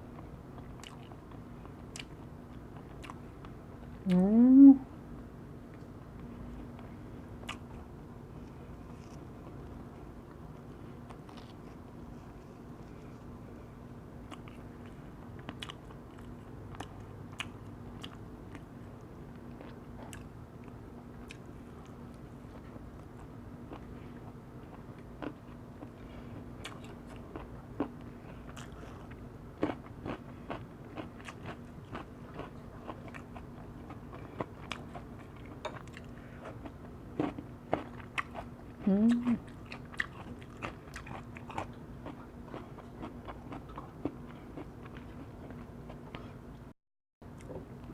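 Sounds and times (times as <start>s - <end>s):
steady low hum: 0.0s - 47.9s
person chewing food: 0.2s - 4.2s, 6.8s - 7.8s, 8.4s - 46.4s.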